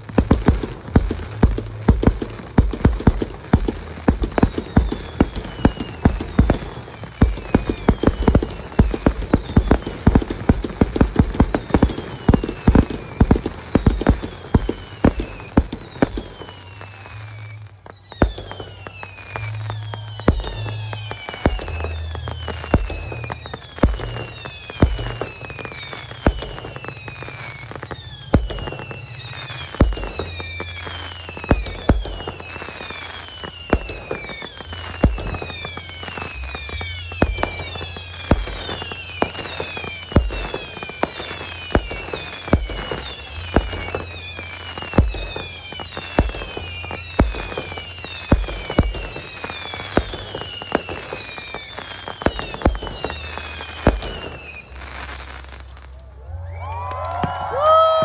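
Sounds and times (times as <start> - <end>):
falling firework whistles: 0.0 - 58.0
fireworks launch bangs: 0.0 - 58.0.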